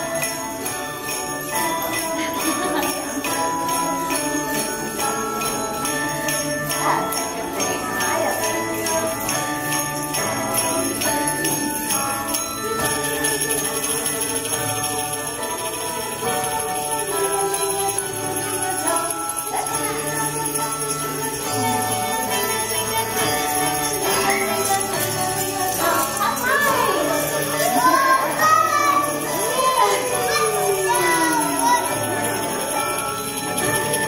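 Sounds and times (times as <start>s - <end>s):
jingle bells shaken in a beat: 0.0s - 34.0s.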